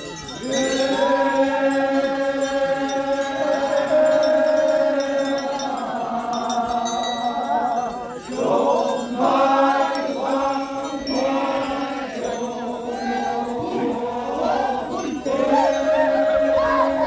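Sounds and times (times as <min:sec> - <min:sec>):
male chorus chanting: 0:00.0 - 0:17.0.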